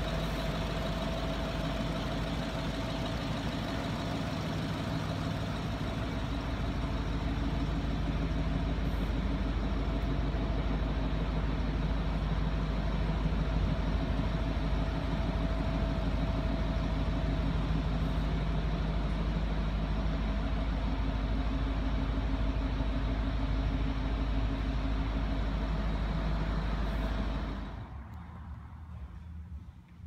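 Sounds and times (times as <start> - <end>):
diesel engine idling: 0.0 - 29.7.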